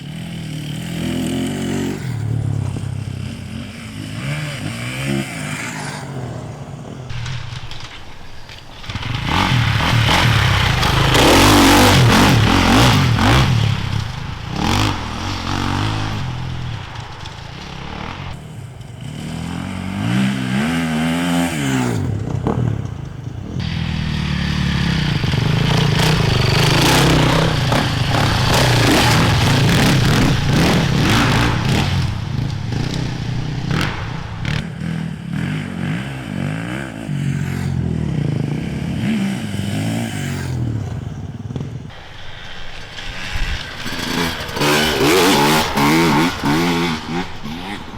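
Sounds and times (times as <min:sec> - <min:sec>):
motorcycles revving past: 0:00.0 - 0:47.9.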